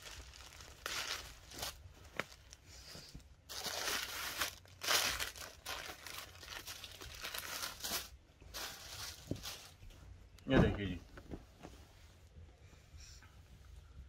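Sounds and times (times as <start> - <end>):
cloth rustling and crumpling: 0.0 - 12.4.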